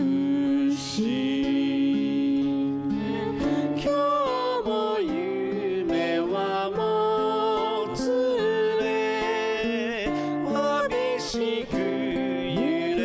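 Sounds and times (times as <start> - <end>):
slow ballad music: 0.0 - 13.0.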